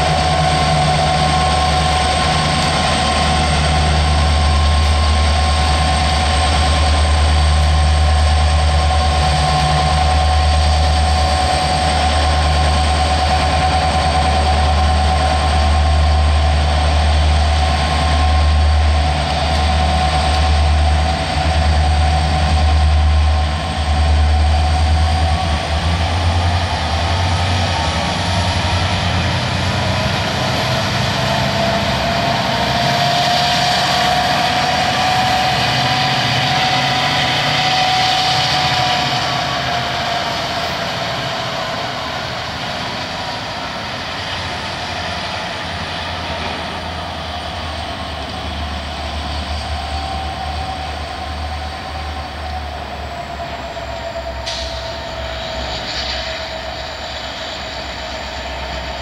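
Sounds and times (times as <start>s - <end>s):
diesel locomotive rumble: 0.0s - 59.0s
wheels squealing on curved rail: 0.0s - 59.0s.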